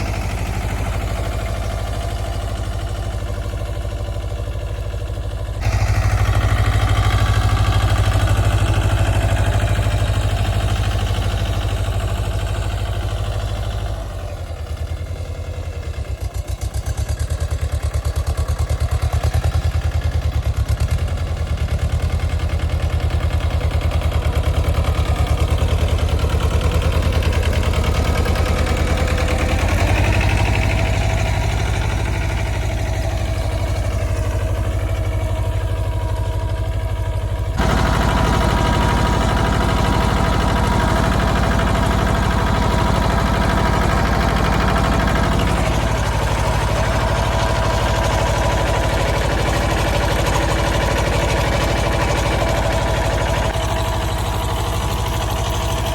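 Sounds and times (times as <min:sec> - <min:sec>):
tractor diesel engine thumping: 0:00.0 - 0:55.9.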